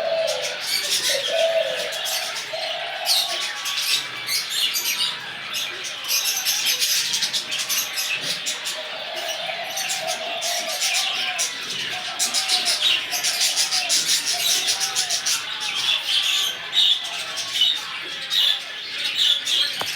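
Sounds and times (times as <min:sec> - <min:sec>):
pigeons cooing: 0:00.0 - 0:19.9
small birds chirping: 0:00.0 - 0:19.9.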